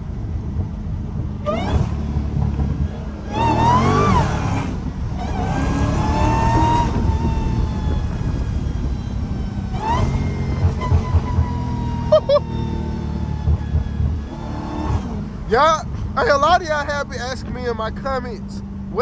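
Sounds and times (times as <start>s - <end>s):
car engine exhaust drone: 0.0s - 19.0s
supercharger whine: 0.0s - 19.0s.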